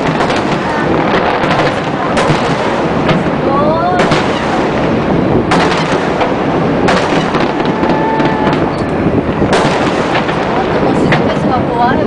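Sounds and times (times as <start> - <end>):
firework booms: 0.0 - 12.0
firework rumble and crackle: 0.0 - 12.0.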